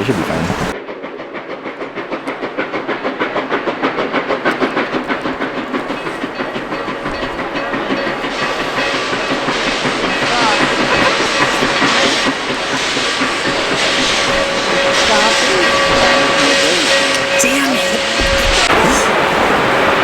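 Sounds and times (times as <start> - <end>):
train running past: 0.0 - 20.0.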